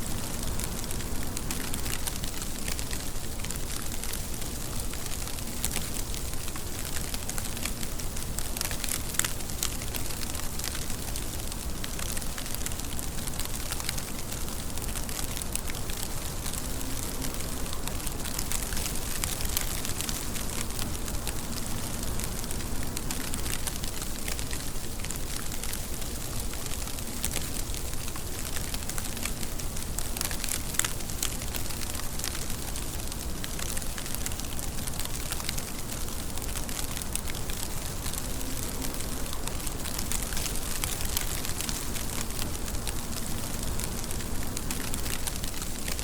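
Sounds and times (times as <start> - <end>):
rain pattering: 0.0 - 46.0.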